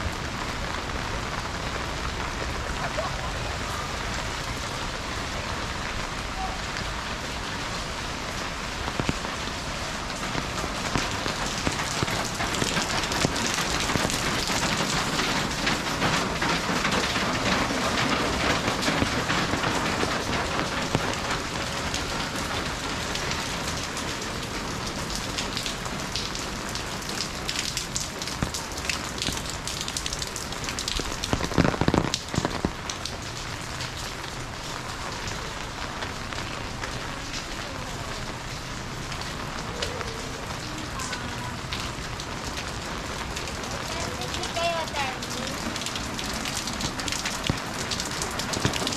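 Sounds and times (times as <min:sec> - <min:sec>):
rain spattering on hard surfaces: 0:00.0 - 0:48.9.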